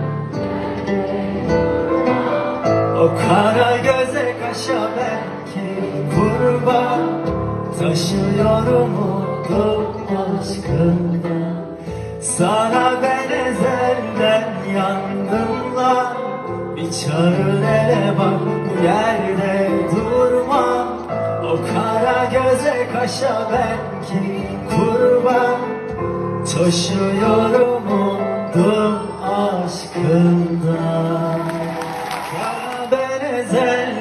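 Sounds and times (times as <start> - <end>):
live pop band: 0.0 - 34.0
man singing: 1.8 - 34.0.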